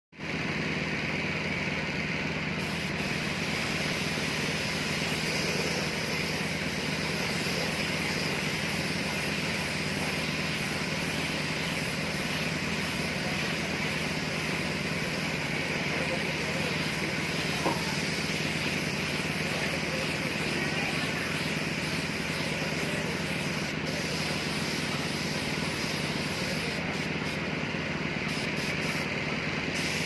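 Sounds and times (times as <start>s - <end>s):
steady mechanical hum with hiss: 0.2s - 30.0s.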